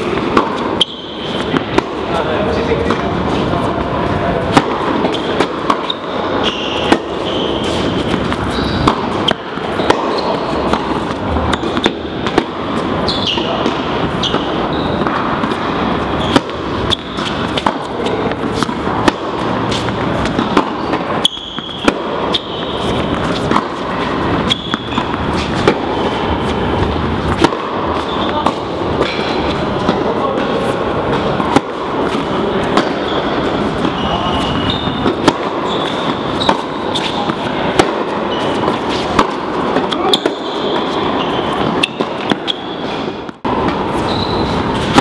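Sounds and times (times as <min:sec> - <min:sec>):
background noise: 0:00.0 - 0:45.0
sneaker squeaks: 0:00.0 - 0:45.0
tennis balls bouncing and struck: 0:00.0 - 0:45.0.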